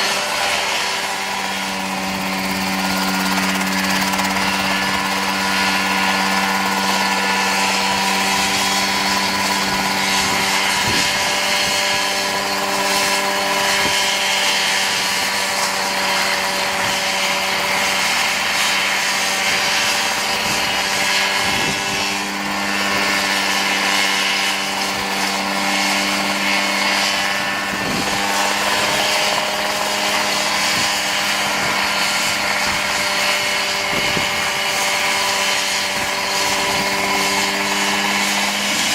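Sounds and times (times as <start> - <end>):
helicopter engine running: 0.0 - 38.9.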